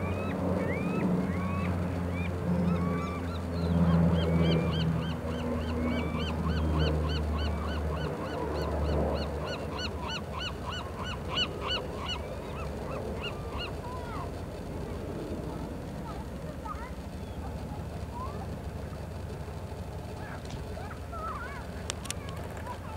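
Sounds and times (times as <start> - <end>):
flock of birds calling: 0.0 - 18.5, 20.0 - 22.9
low engine drone: 0.0 - 22.9.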